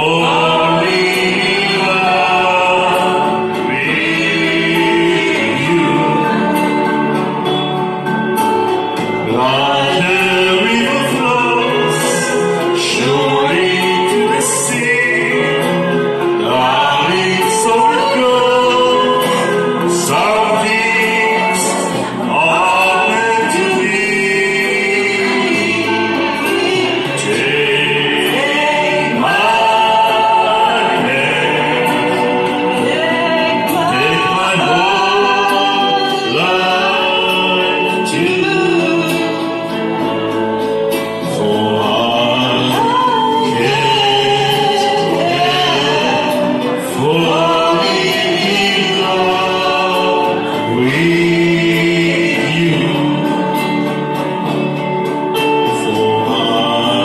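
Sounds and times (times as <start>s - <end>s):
man and woman singing duet: 0.0s - 57.0s.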